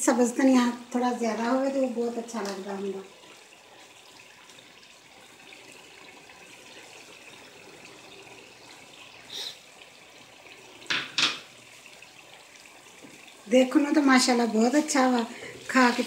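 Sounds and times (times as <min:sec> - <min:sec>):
curry sizzling in a pot: 0:00.0 - 0:16.0.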